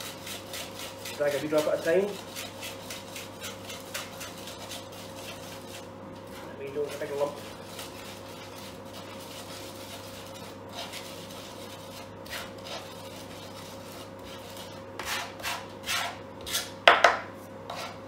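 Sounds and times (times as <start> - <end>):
knife scraping on plastic board: 0.0 - 16.7, 17.7 - 18.0.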